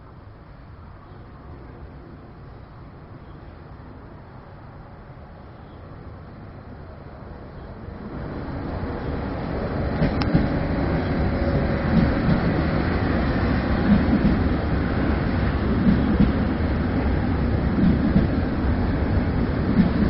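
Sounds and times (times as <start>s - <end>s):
electric train rumble: 0.0s - 20.0s.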